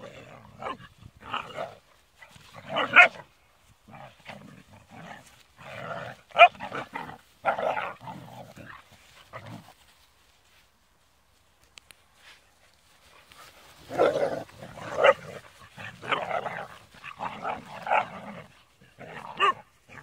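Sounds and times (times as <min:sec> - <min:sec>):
puppies barking and growling: 0:00.0 - 0:09.7, 0:13.4 - 0:20.0.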